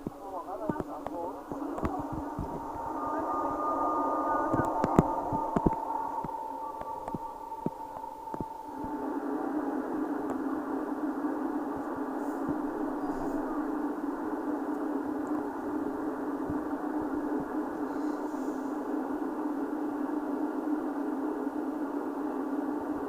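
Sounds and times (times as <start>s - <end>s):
high-speed train running noise: 0.0s - 23.0s.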